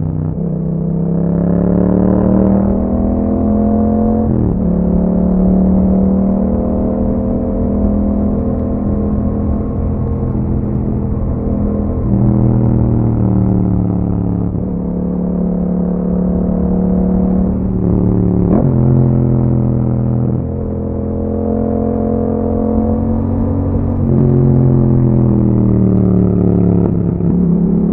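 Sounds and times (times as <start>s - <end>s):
motorcycle engine while riding: 0.0s - 27.9s.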